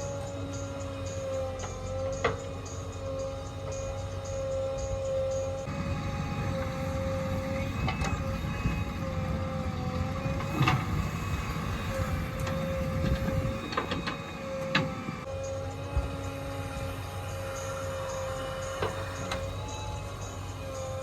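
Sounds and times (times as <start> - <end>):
diesel machinery droning: 0.0 - 21.0
high held whine: 0.0 - 21.0.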